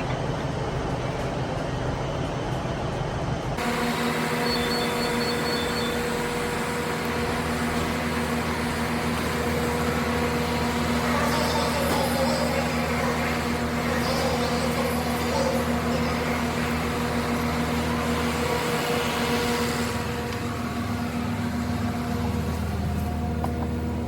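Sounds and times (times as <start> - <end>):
train carriage hum: 0.0 - 24.0.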